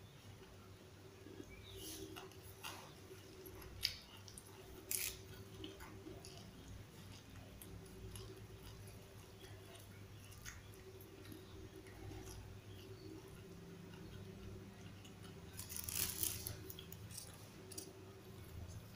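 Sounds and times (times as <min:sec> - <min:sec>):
faint steady hum: 0:00.0 - 0:18.9.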